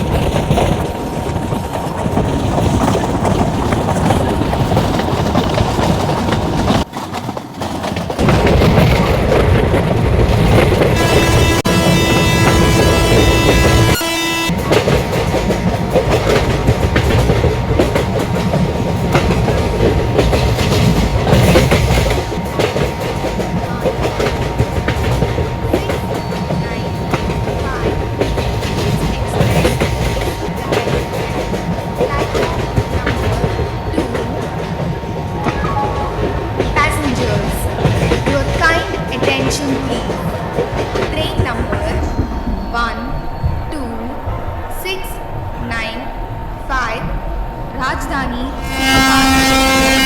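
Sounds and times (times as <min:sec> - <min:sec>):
train rumbling: 0:00.0 - 0:50.0
wheels clattering over rail joints: 0:00.0 - 0:50.0.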